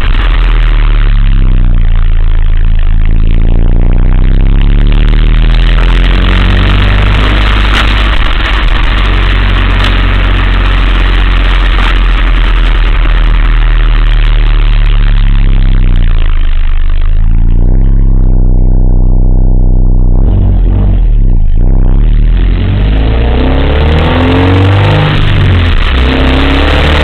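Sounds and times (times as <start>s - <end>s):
car engine hum and road noise: 0.0s - 27.0s.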